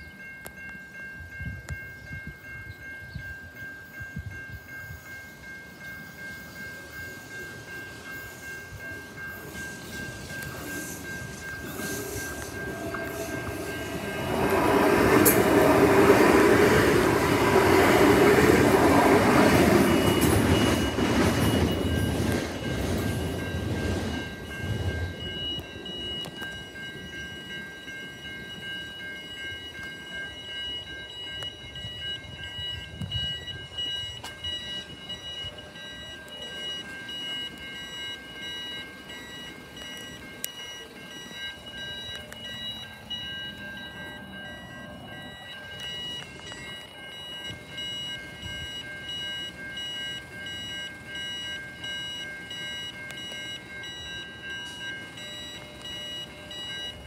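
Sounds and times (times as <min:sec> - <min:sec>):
level crossing warning bells ringing: 0:00.0 - 0:57.0.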